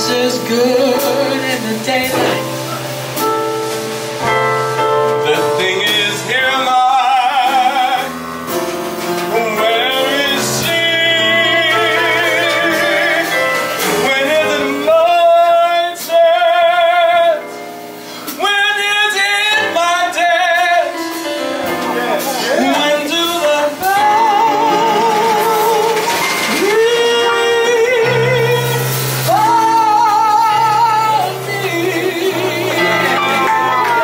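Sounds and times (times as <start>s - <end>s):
man singing with vibrato: 0.0s - 3.0s, 4.9s - 34.0s
drums: 0.0s - 34.0s
piano: 0.0s - 34.0s.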